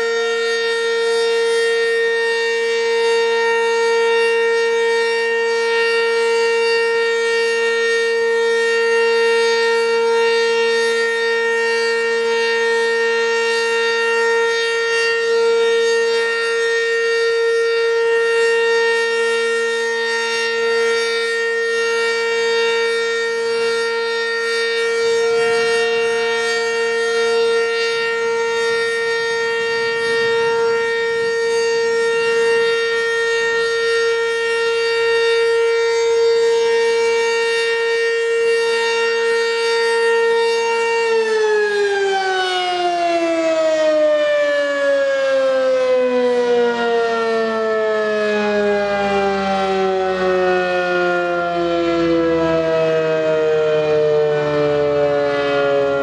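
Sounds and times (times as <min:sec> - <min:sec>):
warning siren steady tone: 0:00.0 - 0:56.0.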